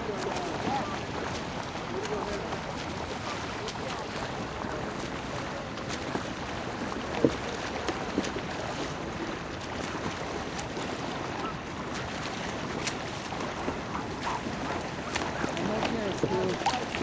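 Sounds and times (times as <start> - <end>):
water sloshing around kayak: 0.0 - 17.0
wind buffeting microphone: 0.0 - 17.0.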